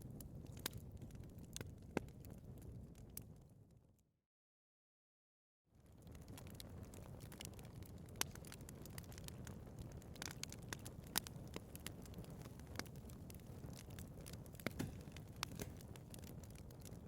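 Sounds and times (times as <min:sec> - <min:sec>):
fire crackling and popping: 0:00.0 - 0:03.6, 0:05.8 - 0:17.0
fire flames rumbling: 0:00.0 - 0:03.7, 0:05.8 - 0:17.0.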